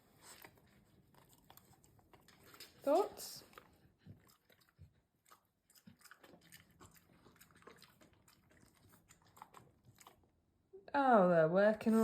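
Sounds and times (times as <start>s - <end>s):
dog chewing with crunches: 0.0s - 10.4s.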